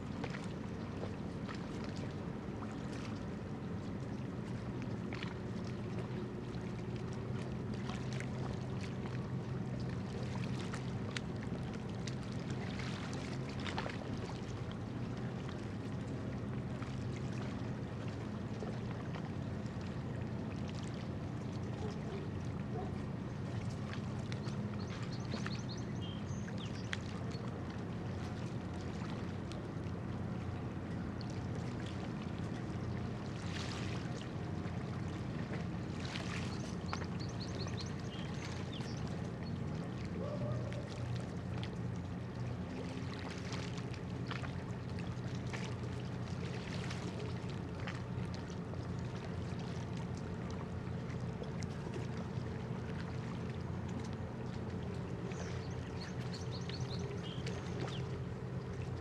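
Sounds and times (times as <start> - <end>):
ship engines droning: 2.2 - 59.0.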